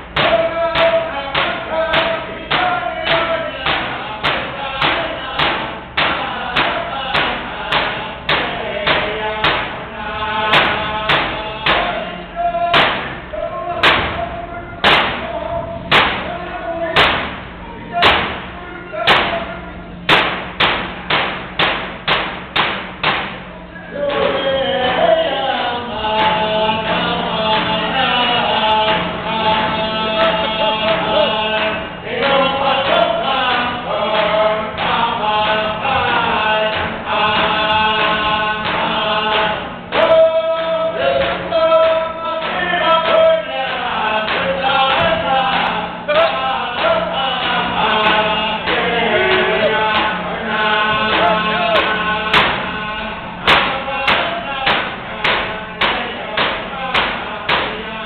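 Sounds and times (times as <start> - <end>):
frame drums struck with sticks: 0.0 - 9.9, 10.5 - 12.1, 12.7 - 15.3, 15.9 - 16.4, 17.0 - 23.5, 26.2 - 57.9
group chanting: 0.0 - 21.8, 22.6 - 58.0.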